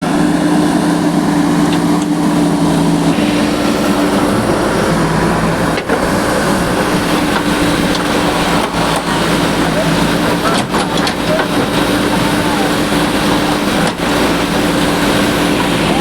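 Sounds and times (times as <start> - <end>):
heavy machinery engine droning: 0.0 - 16.0.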